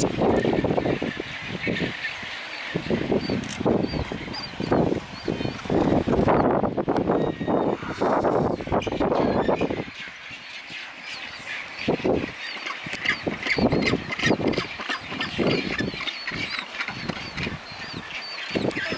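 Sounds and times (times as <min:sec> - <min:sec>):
penguins calling: 0:00.2 - 0:18.9.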